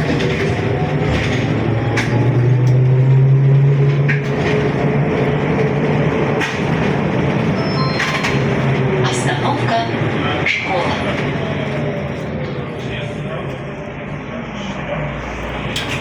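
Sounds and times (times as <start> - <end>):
trolleybus drive hum: 0.0 - 16.0.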